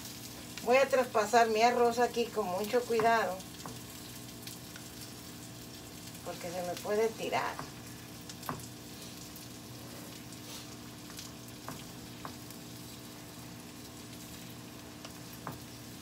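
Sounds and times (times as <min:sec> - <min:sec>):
broth hissing in saucepan: 0:00.0 - 0:16.0.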